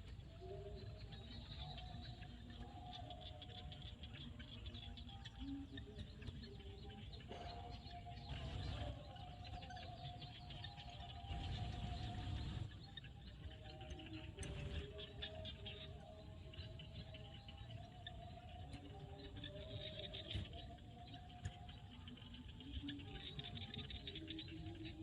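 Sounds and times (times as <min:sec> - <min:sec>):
frogs chorus clicking and chirping: 0:00.0 - 0:25.0
frogs long held calls: 0:00.0 - 0:25.0.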